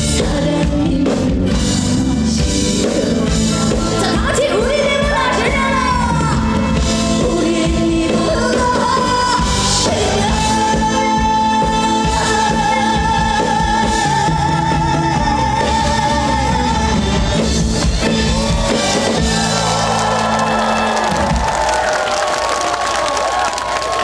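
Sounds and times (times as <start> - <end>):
backing music: 0.0 - 24.0.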